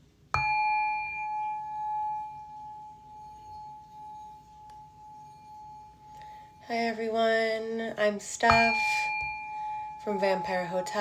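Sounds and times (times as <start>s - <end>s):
sound bowl ringing: 0.3s - 7.3s, 8.4s - 11.0s.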